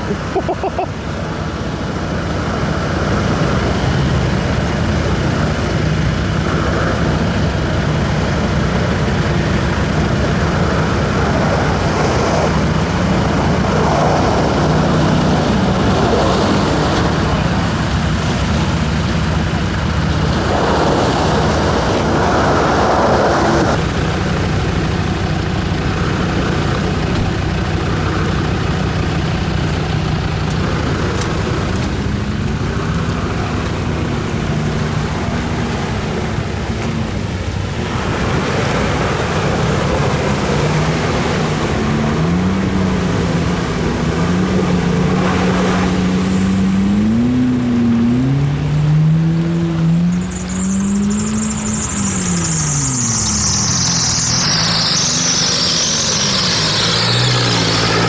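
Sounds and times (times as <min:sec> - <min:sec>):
off-road engine running: 0:00.0 - 0:58.0.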